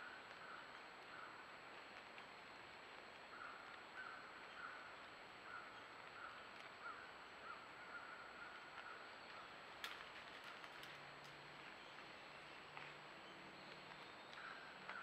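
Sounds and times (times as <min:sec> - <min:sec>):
faint bird calls: 0:00.0 - 0:01.6, 0:03.2 - 0:10.0, 0:10.8 - 0:15.0
microphone hiss: 0:00.0 - 0:15.0.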